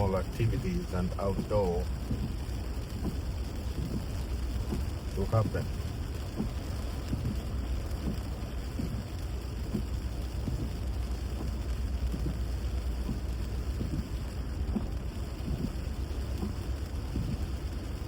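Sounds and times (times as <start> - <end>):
rain hissing: 0.0 - 18.0
road rumble: 0.0 - 18.0
wet road noise: 0.0 - 18.0.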